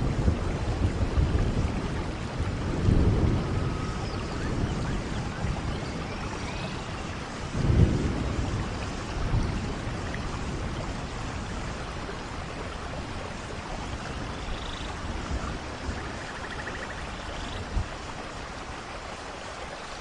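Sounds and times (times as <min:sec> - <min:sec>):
thunder rumbling: 0:00.0 - 0:18.8
steady rain falling: 0:00.0 - 0:20.0.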